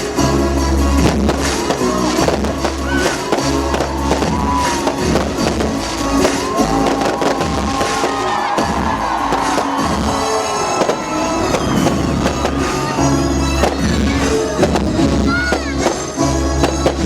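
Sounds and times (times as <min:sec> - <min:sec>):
fireworks bangs and crackles: 0:00.0 - 0:17.0
loud music with heavy bass: 0:00.0 - 0:17.0.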